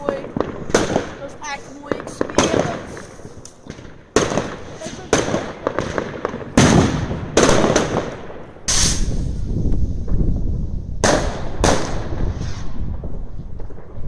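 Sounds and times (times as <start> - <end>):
fireworks bangs: 0.0 - 14.0
fireworks crackling: 0.0 - 14.0
low rumble of fireworks: 0.0 - 14.0.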